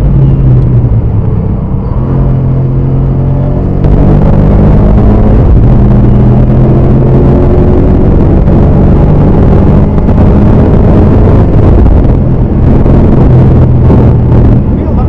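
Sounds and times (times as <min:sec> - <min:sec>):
car engine running: 0:00.0 - 0:15.0
road and wind noise: 0:00.0 - 0:15.0.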